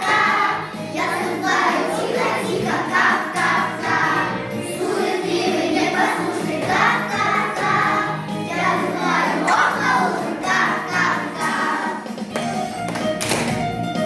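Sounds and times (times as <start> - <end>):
children's choir singing: 0.0 - 12.2
instrumental accompaniment: 1.6 - 14.0.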